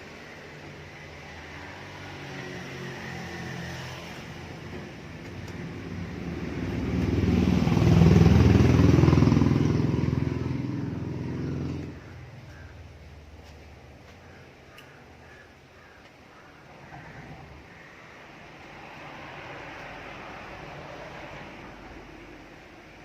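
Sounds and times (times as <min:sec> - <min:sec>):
vehicle engine passing by: 0:00.0 - 0:13.5, 0:16.8 - 0:23.0.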